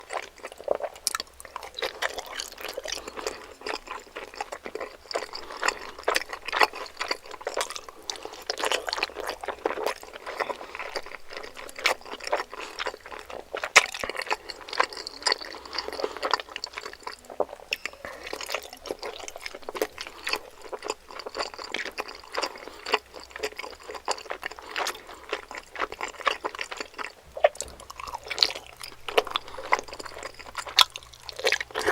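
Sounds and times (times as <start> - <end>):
wet chewing and mouth sounds: 0.0 - 31.9.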